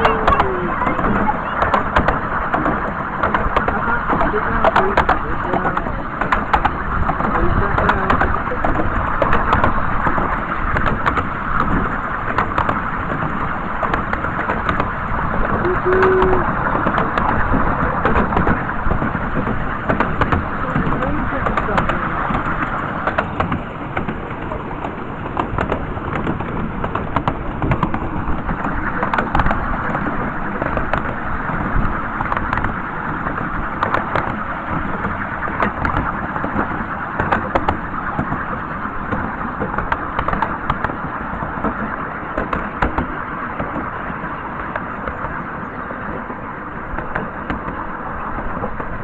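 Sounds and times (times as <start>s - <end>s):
clicks and knocks: 0.0s - 44.0s
train wheels rumbling on track: 0.0s - 49.0s.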